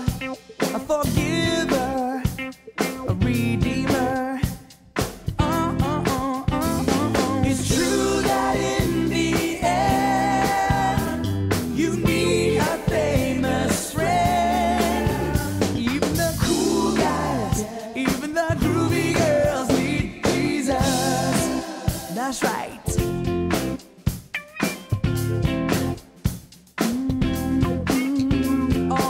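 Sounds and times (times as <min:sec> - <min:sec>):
person singing lead vocal: 0:00.0 - 0:04.8, 0:05.4 - 0:23.1, 0:26.8 - 0:29.0
steady drum beat: 0:00.0 - 0:29.0.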